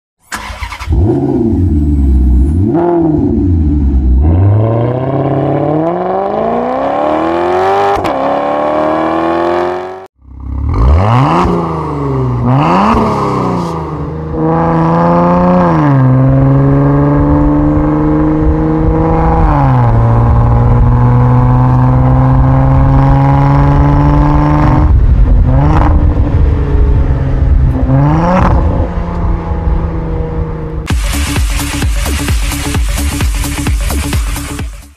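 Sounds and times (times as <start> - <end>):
car engine revving and accelerating: 0.4 - 34.6.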